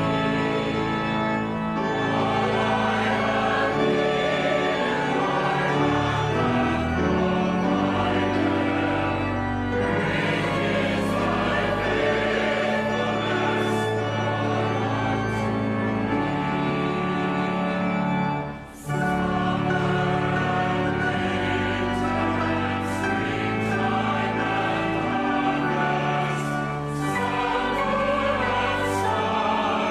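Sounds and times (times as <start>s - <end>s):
choir singing sustained chords: 0.0s - 29.9s.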